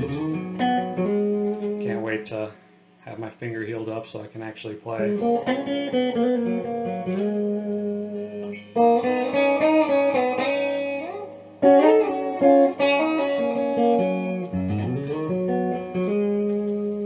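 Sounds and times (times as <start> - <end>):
electric guitar notes and chords: 0.0 - 2.2, 5.0 - 17.0.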